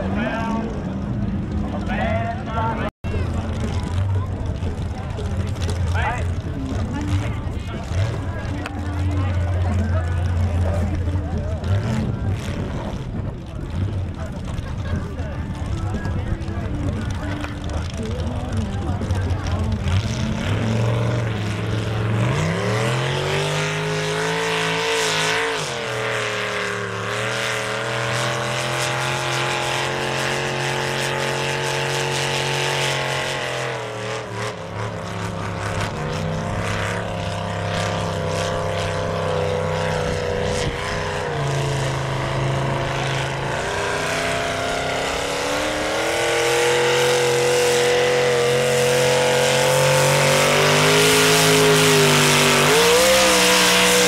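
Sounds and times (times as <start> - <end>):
truck engine revving high: 0.0 - 54.0.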